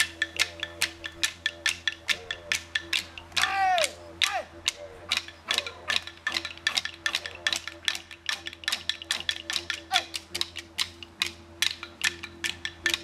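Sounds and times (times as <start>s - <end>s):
rapid wooden tapping: 0.0s - 13.0s
steady low hum: 0.0s - 13.0s.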